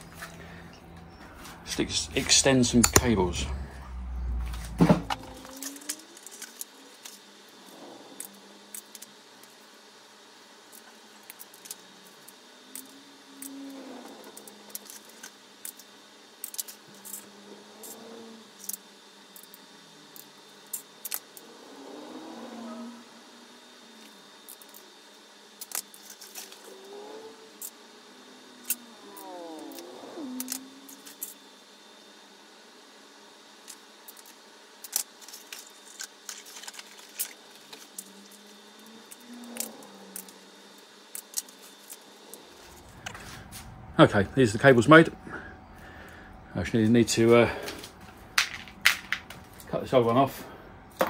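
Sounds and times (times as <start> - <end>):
handling noises of tools and wire: 0.0 - 21.5, 24.0 - 24.9, 25.5 - 27.8, 28.4 - 31.4, 33.6 - 43.8, 47.0 - 51.0.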